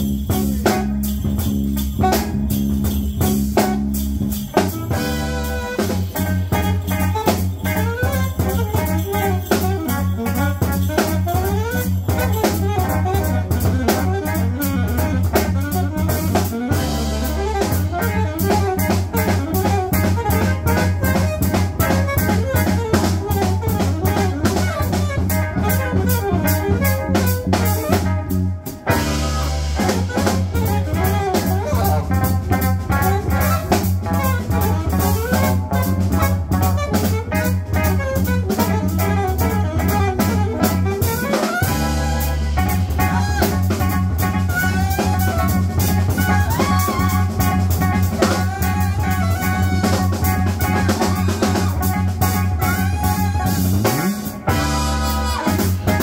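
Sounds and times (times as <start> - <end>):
alto saxophone lead: 0.0 - 56.0
jazz band playing: 0.0 - 56.0.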